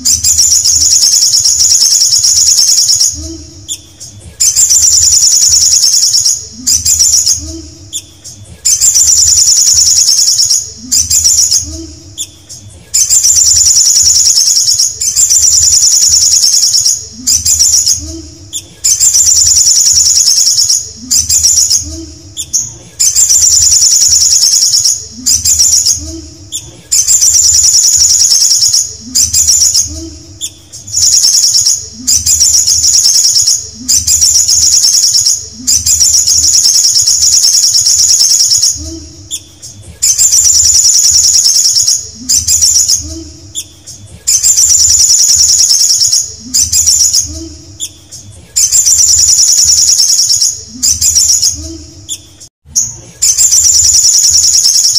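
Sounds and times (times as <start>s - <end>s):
bird singing buzzy trill: 0.0s - 54.9s.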